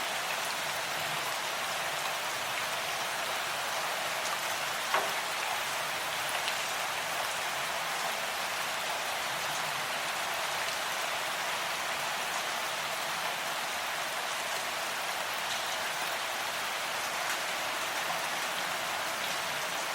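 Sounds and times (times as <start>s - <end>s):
rain pattering: 0.0s - 19.9s.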